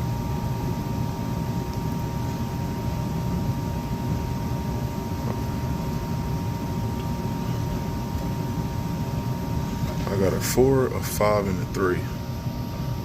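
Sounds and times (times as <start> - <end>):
low machine hum: 0.0 - 13.0
thin constant whine: 0.0 - 13.0.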